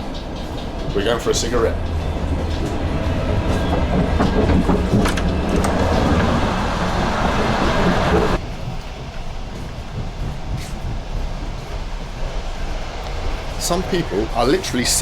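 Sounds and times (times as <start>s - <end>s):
low hum of moving train: 0.0s - 15.0s
train wheels on rails: 0.0s - 15.0s.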